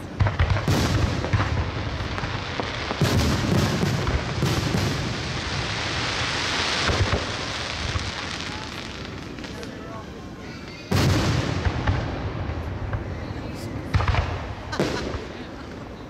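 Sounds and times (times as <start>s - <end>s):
fireworks booming: 0.0s - 16.0s
fireworks crackling hiss: 0.0s - 16.0s.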